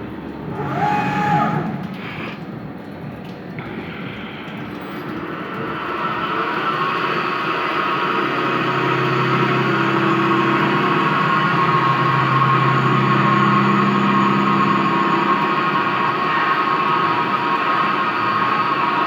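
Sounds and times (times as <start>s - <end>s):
lathe whine and hum: 0.0s - 2.4s, 3.9s - 19.0s.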